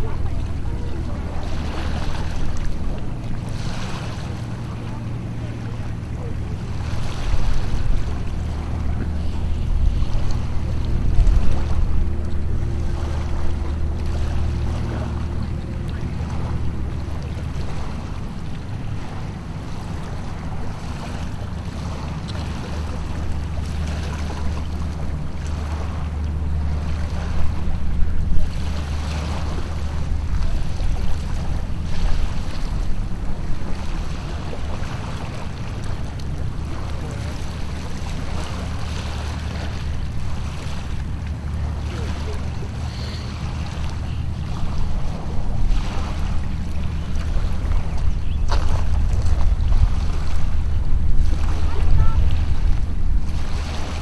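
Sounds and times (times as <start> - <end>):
low steady rumble: 0.0 - 54.0
small waves washing in: 0.0 - 54.0
wind buffeting microphone: 0.0 - 54.0.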